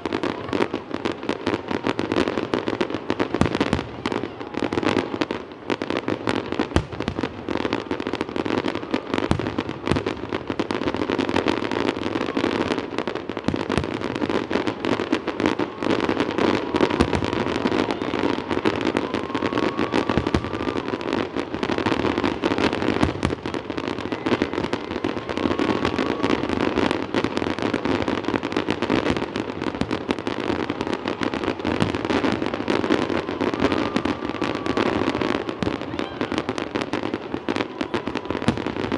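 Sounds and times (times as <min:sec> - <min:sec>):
fireworks bursts and crackle: 0:00.0 - 0:38.9.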